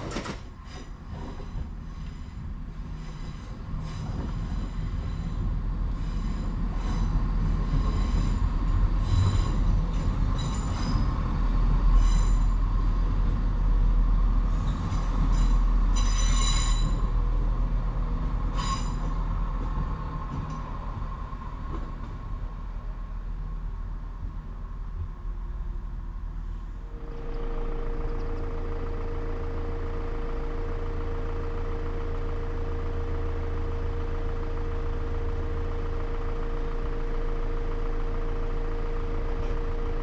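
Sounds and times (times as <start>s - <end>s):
train engines and wheels rumbling: 0.0s - 40.0s.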